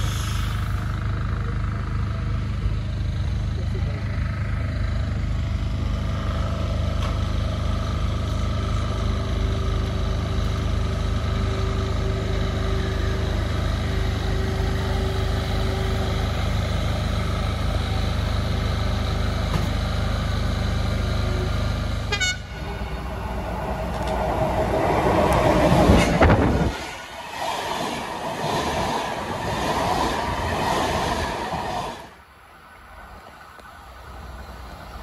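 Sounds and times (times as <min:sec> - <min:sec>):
train whine: 0:00.0 - 0:35.0
train rumbling past: 0:04.2 - 0:33.2.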